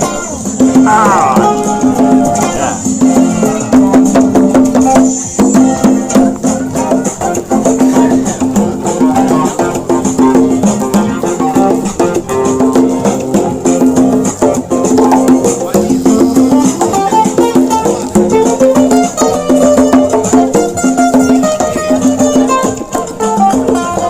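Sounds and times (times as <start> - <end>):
hand percussion: 0.0 - 24.0
plucked strings: 0.0 - 24.0.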